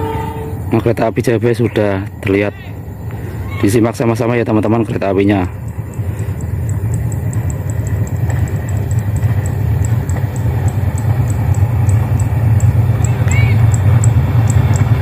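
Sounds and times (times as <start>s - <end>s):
diesel train rumbling: 0.0s - 15.0s.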